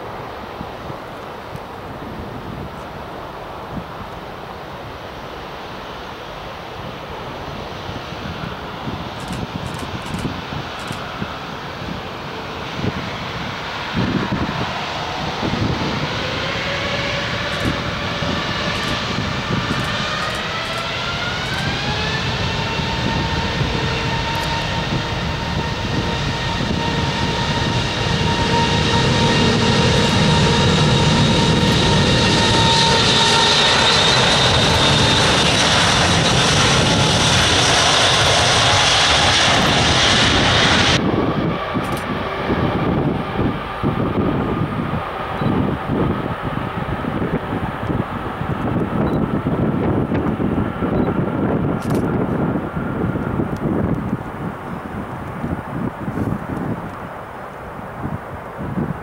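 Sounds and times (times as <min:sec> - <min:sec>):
jet engine rumble: 0:00.0 - 0:59.0
jet engines whining: 0:00.0 - 0:59.0.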